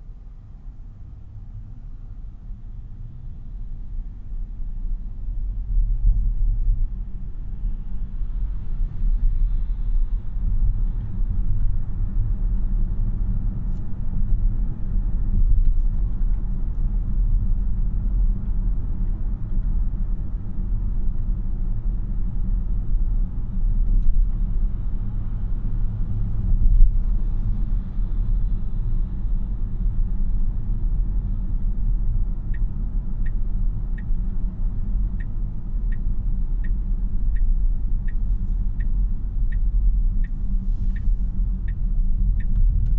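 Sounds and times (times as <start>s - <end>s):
road and tyre rumble in car: 0.0s - 42.9s.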